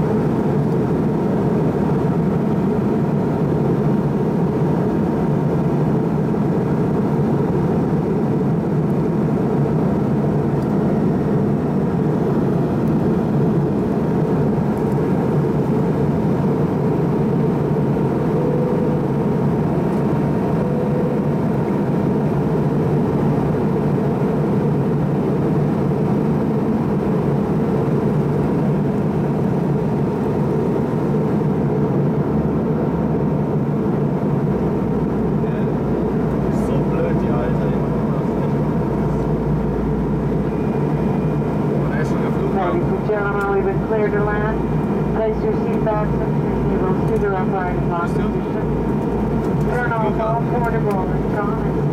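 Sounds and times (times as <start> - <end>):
airliner cabin rumble: 0.0 - 51.9.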